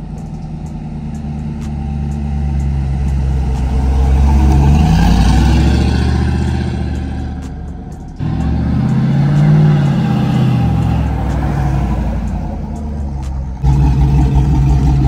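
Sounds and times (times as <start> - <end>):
truck engine driving past: 0.0 - 15.0.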